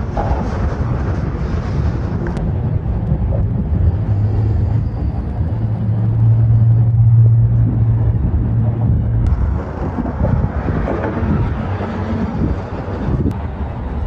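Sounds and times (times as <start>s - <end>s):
rumbling wind noise: 0.0s - 14.0s
vehicle engine humming: 0.0s - 14.0s.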